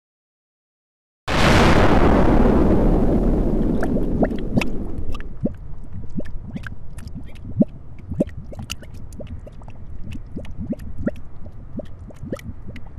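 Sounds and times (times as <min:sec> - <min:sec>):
lava bubbling and popping: 0:01.3 - 0:12.9
low explosion rumble: 0:01.3 - 0:12.9.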